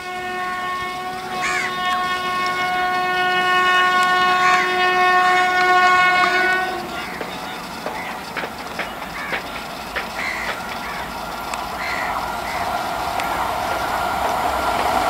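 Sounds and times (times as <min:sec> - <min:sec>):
locomotive horn blast: 0:00.0 - 0:15.0.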